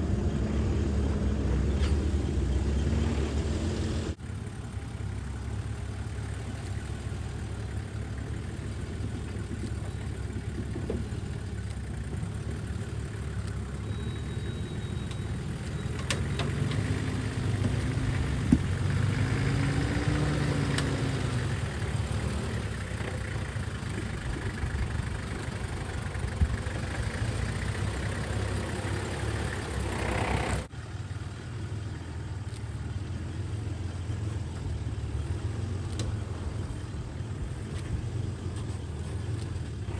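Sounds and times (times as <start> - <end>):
vehicle engine driving off-road: 0.0 - 39.9.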